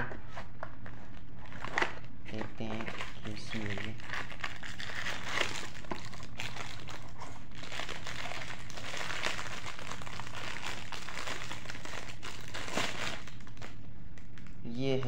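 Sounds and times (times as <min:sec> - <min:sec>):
plastic wrapping crinkling: 0:00.0 - 0:14.6.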